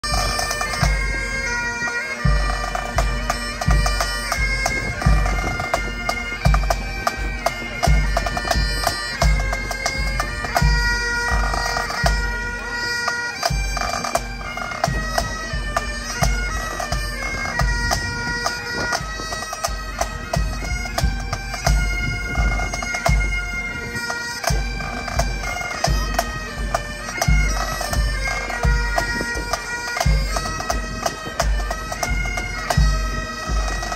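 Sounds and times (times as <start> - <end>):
bagpipes playing: 0.0 - 33.9.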